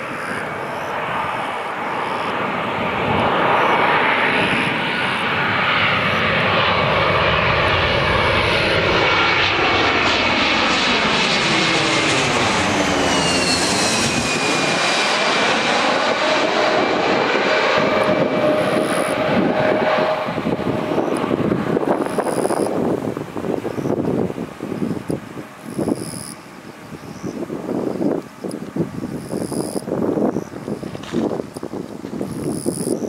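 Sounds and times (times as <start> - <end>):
jet airliner passing overhead: 0.0 - 33.0
jet engine whine: 0.0 - 33.0.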